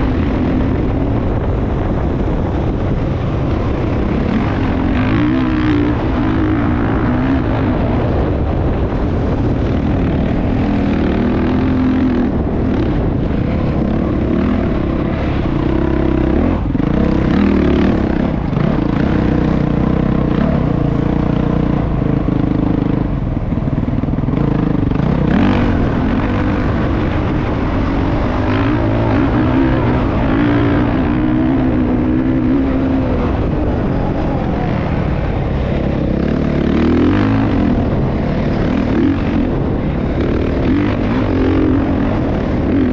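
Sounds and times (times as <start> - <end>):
motocross engine revving: 0.0 - 42.9.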